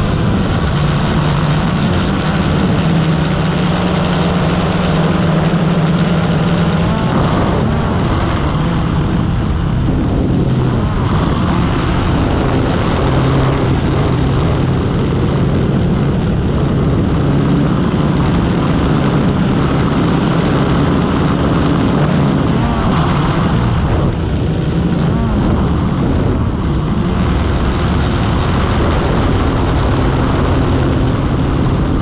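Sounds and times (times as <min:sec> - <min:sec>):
propeller aircraft engine drone: 0:00.0 - 0:32.0
rushing noise: 0:00.0 - 0:32.0.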